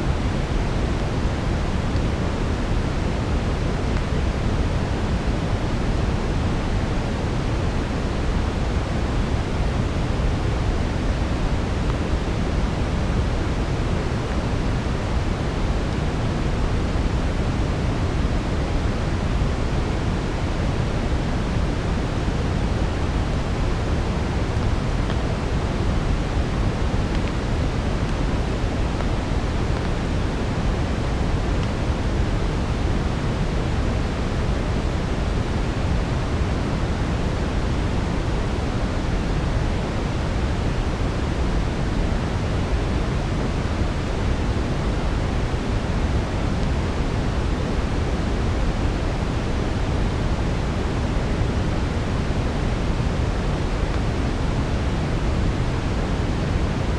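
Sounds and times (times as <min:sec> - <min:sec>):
brown noise: 0:00.0 - 0:56.9.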